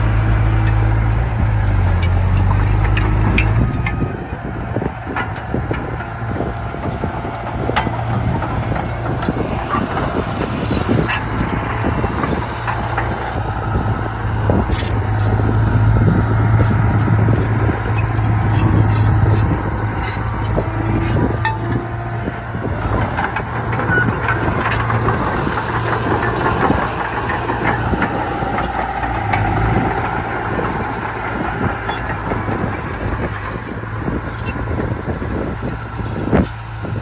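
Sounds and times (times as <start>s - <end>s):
bulldozer diesel engine running: 0.0s - 37.0s
clanks and rattles: 0.0s - 37.0s.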